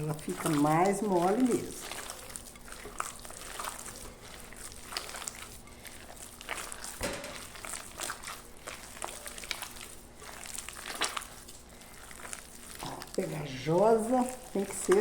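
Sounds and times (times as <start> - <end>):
hands squishing sticky dough: 0.0 - 15.0.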